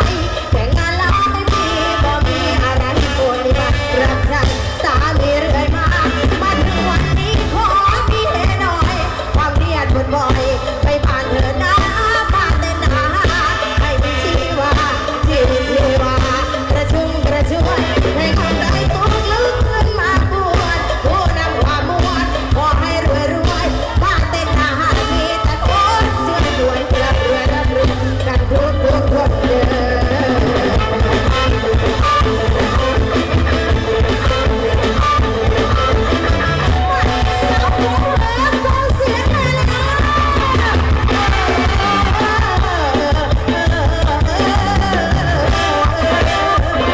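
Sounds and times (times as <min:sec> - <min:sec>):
heavy bass: 0:00.0 - 0:46.9
live rock band playing: 0:00.0 - 0:46.9
woman singing: 0:00.0 - 0:46.9.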